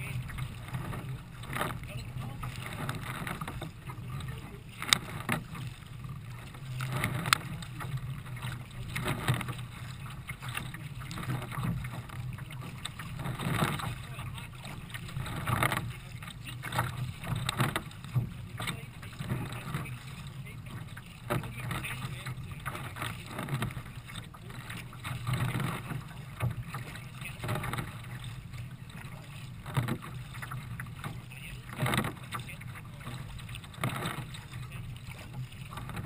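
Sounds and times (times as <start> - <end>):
water rushing along kayak bow: 0.0 - 36.0.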